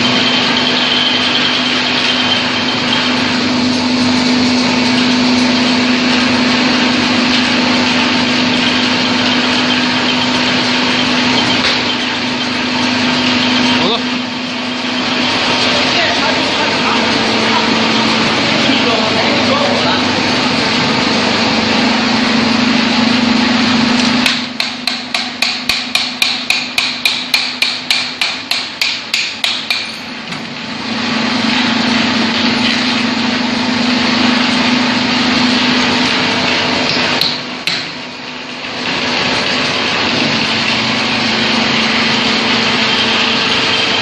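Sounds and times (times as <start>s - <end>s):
hydraulic power unit hum: 0.0s - 44.0s.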